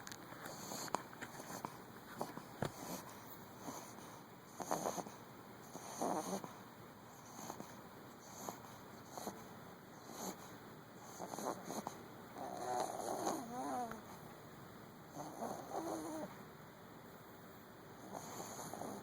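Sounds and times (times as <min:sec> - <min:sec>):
small dog snoring: 0:00.5 - 0:14.0, 0:15.1 - 0:16.3, 0:18.0 - 0:19.0.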